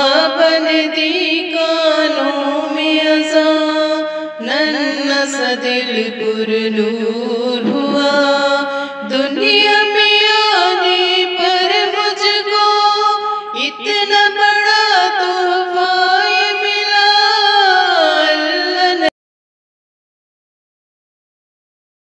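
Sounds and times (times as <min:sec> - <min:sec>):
woman singing solo: 0:00.0 - 0:19.1.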